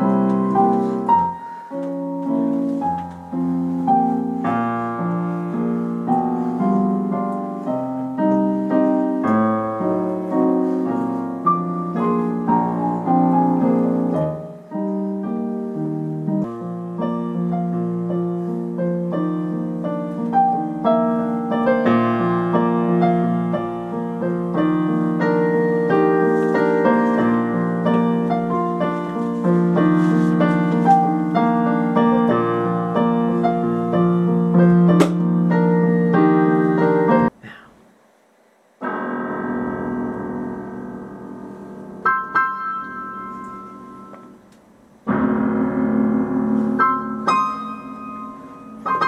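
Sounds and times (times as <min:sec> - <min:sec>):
digital piano playing: 0:00.0 - 0:37.4, 0:38.8 - 0:49.0.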